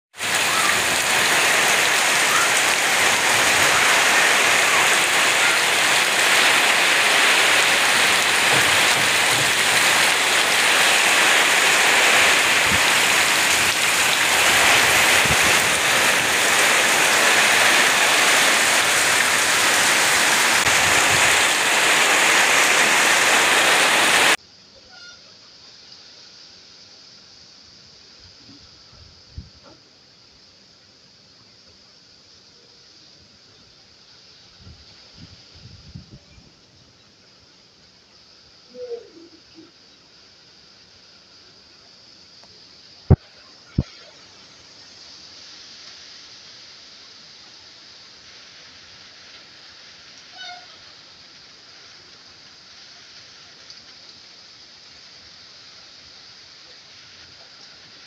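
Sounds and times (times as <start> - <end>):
heavy rain on foliage: 0.1 - 58.0.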